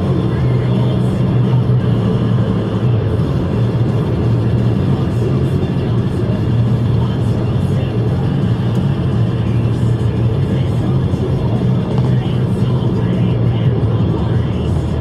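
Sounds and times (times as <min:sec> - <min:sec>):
car engine hum: 0:00.0 - 0:15.0
tyre and road noise: 0:00.0 - 0:15.0.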